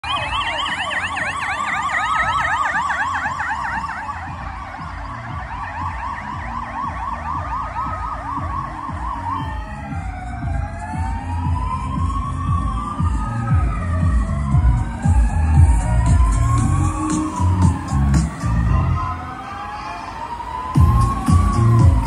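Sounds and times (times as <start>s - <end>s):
fast yelping sirens: 0.0s - 22.0s
rising and falling siren wail: 0.0s - 22.0s
rumble of passing vehicles: 0.1s - 22.0s.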